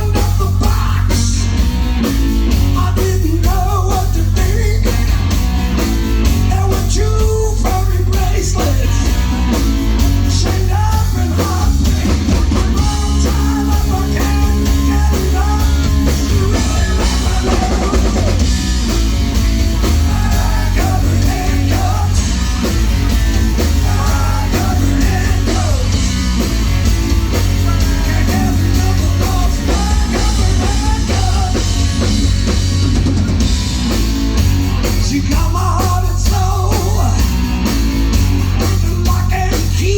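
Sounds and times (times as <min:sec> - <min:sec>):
drum kit: 0:00.0 - 0:39.9
electric guitar: 0:00.0 - 0:39.9
heavy bass line: 0:00.0 - 0:39.9.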